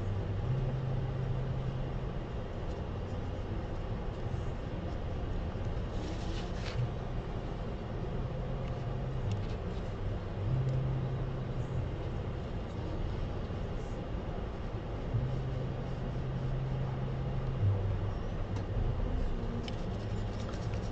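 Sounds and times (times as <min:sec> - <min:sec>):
low hum shifting in pitch: 0:00.0 - 0:20.9
low rumble: 0:00.0 - 0:20.9.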